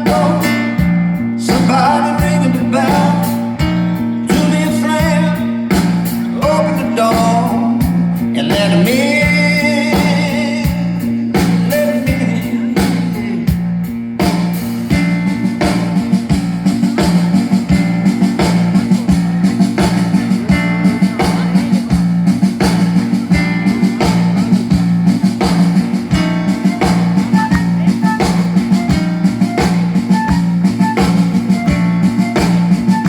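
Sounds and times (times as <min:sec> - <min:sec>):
bass line: 0:00.0 - 0:33.0
drum kit beat: 0:00.0 - 0:33.0
guitar: 0:00.0 - 0:33.0.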